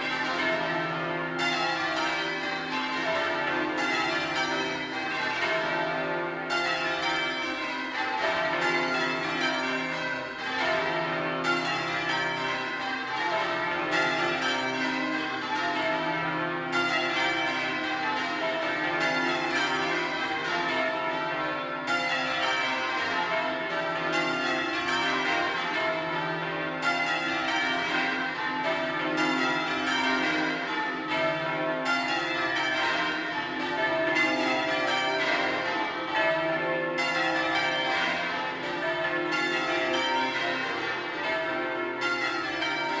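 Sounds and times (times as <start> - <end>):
church bells change ringing: 0.0 - 43.0.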